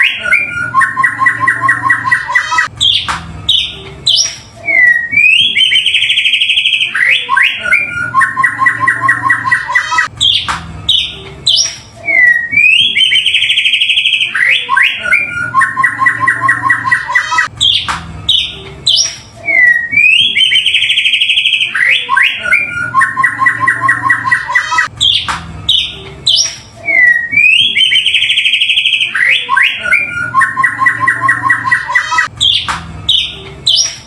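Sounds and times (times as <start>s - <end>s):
songbird singing trills and whistles: 0.0s - 34.0s.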